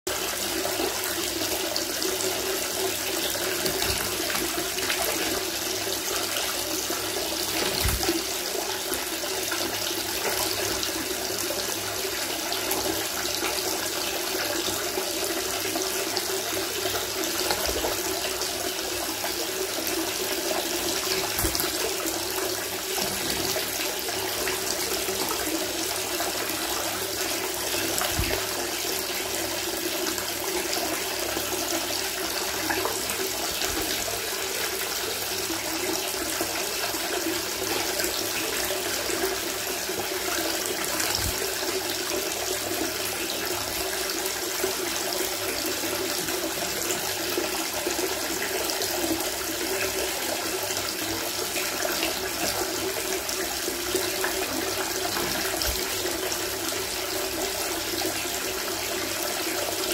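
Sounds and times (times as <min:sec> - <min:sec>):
water pouring into bathtub: 0:00.1 - 0:59.9.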